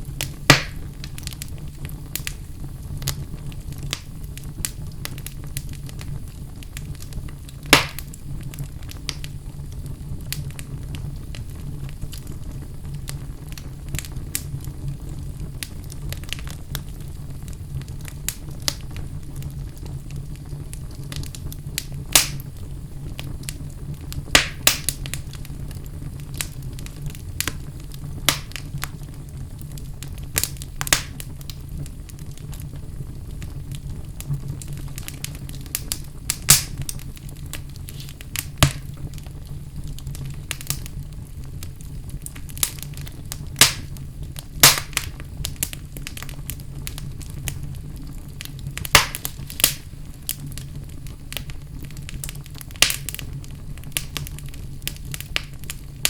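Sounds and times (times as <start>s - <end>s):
fire burning in a fireplace: 0.0s - 56.0s
fire crackles and pops: 0.0s - 56.0s.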